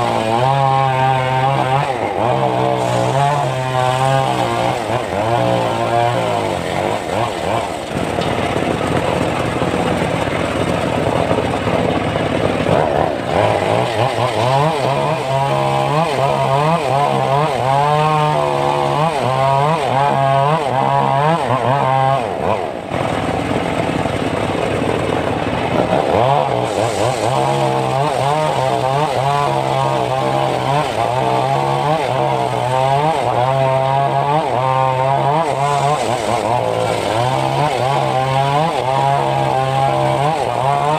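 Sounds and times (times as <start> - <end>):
engine-driven circular saw cutting wood: 0.0 - 40.9.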